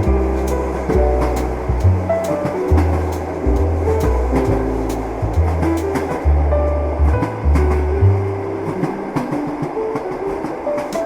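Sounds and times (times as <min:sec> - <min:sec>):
relaxed jazz with walking bass: 0:00.0 - 0:10.3
train wheels rumbling and clattering: 0:00.0 - 0:11.0.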